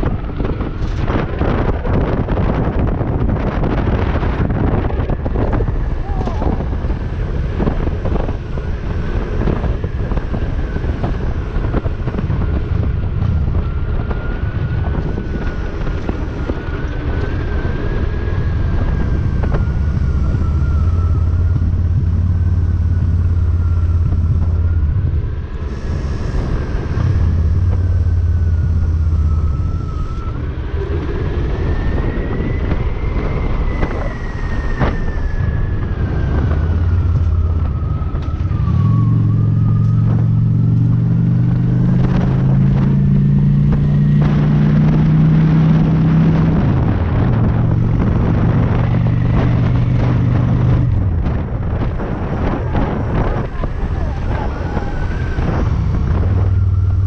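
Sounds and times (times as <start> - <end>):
motorcycle engine running: 0.0 - 34.7, 35.3 - 57.0
thin whine: 0.0 - 57.0
wind buffeting microphone: 0.0 - 57.0.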